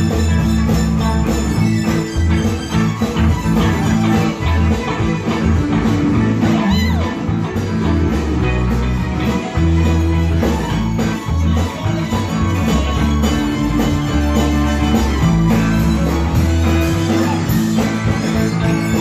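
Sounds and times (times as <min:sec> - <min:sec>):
drum kit: 0:00.0 - 0:19.0
electric guitars: 0:00.0 - 0:19.0
keyboard: 0:00.0 - 0:19.0
low bass notes: 0:00.0 - 0:19.0.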